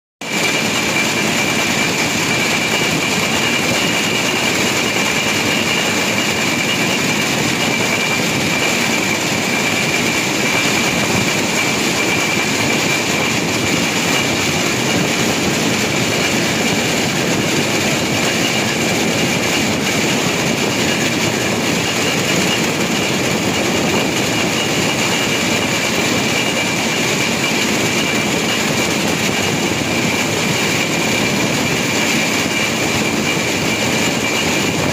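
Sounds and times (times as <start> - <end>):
rail car running on track: 0.2 - 34.9
high whine: 0.3 - 34.9.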